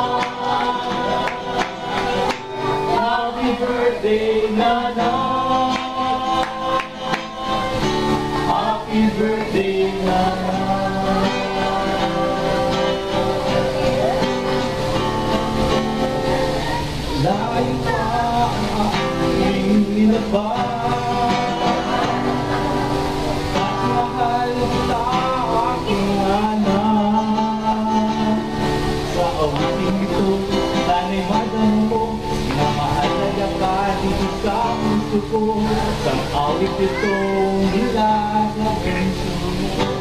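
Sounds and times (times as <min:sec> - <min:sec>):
acoustic guitar: 0:00.0 - 0:40.0
group singing: 0:00.0 - 0:40.0.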